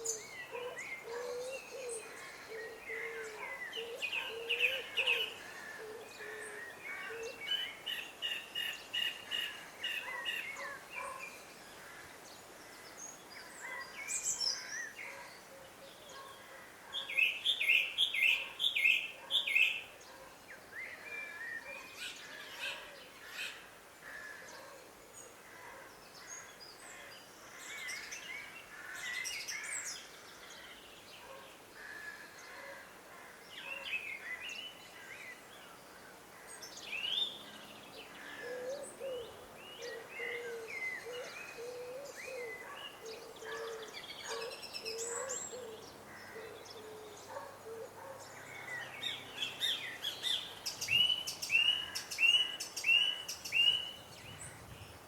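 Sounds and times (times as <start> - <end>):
birds singing and calling: 0.0 - 11.7, 12.4 - 23.7, 33.5 - 55.0.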